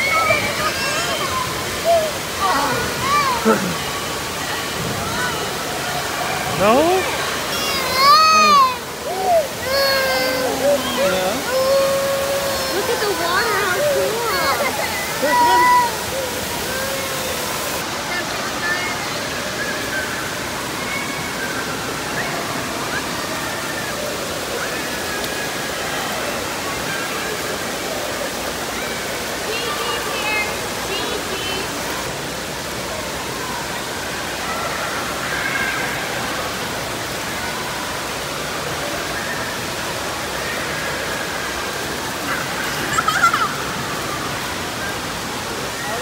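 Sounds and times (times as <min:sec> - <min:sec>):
water rushing: 0:00.0 - 0:46.0.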